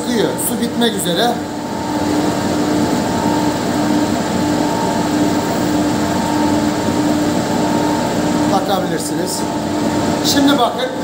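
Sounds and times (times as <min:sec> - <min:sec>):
spin-dryer drum whirring: 0:00.0 - 0:11.0
steady hum: 0:00.0 - 0:11.0.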